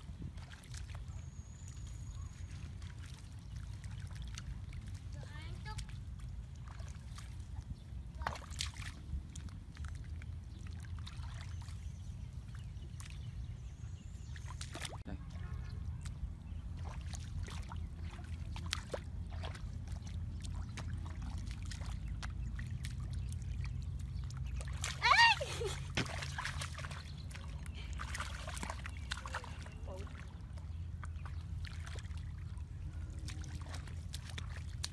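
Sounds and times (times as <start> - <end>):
splashing in shallow water: 0.0 - 34.9.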